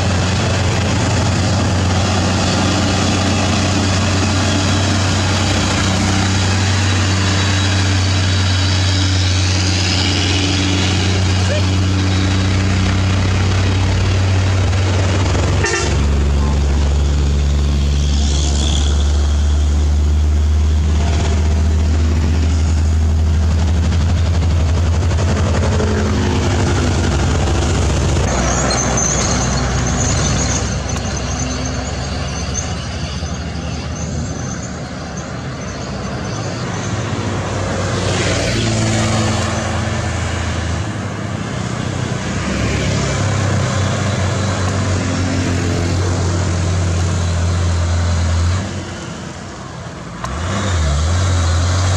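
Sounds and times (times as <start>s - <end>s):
truck diesel engines labouring: 0.0s - 51.9s.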